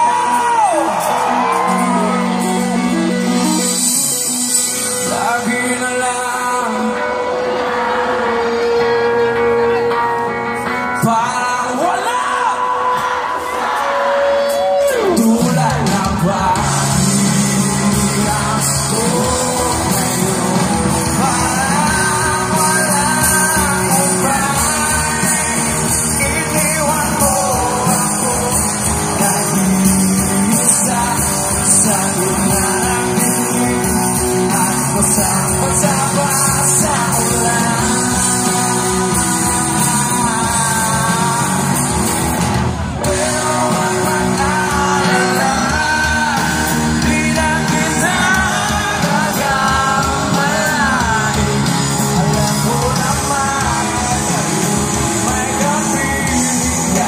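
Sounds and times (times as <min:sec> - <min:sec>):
live rock band playing: 0:00.0 - 0:57.0
man singing lead vocals: 0:00.0 - 0:57.0.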